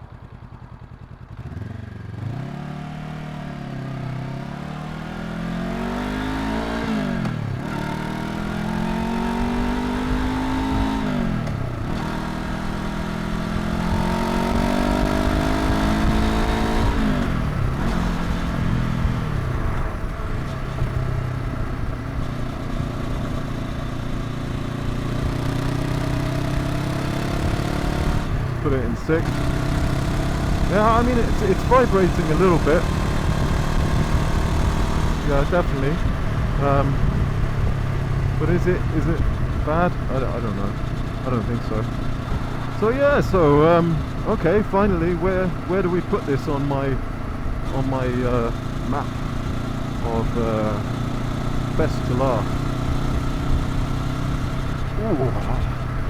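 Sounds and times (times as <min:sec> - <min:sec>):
motorcycle engine accelerating: 0:00.0 - 0:56.0
wind and road noise: 0:00.0 - 0:56.0.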